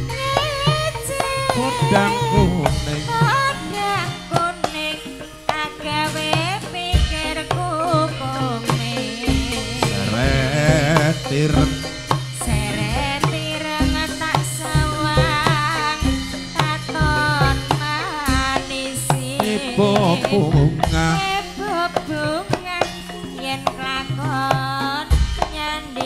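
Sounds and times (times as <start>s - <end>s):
sustained low instrument tones: 0.0s - 25.5s
drum strokes: 0.0s - 26.0s
woman singing into microphone: 0.0s - 26.0s.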